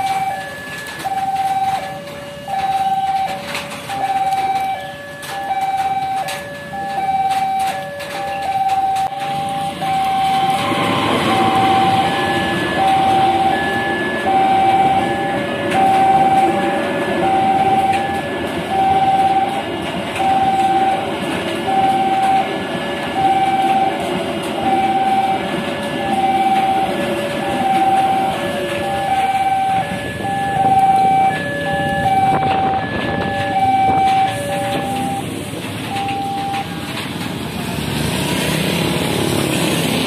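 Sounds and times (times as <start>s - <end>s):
level-crossing warning bell: 0.0s - 37.6s
train coaches passing over rails: 0.0s - 40.0s.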